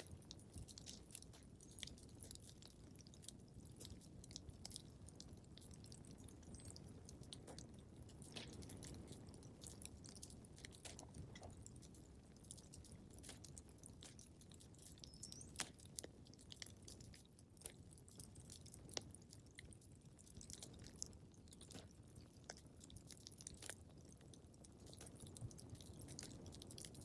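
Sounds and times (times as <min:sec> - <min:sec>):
fire popping and snapping: 0:00.0 - 0:27.0
wood fire crackling: 0:00.0 - 0:27.0.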